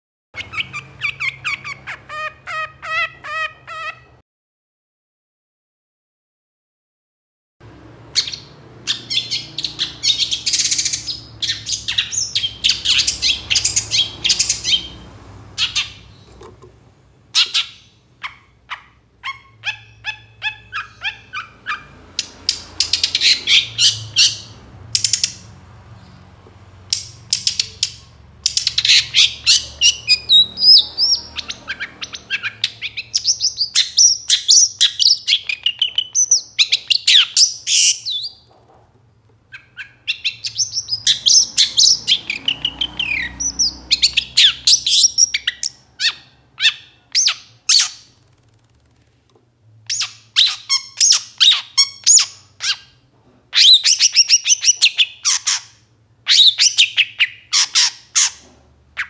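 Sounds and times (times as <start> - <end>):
bird chattering song: 0.4 - 4.2, 8.1 - 16.6, 17.3 - 38.5, 39.5 - 48.3, 49.9 - 59.0.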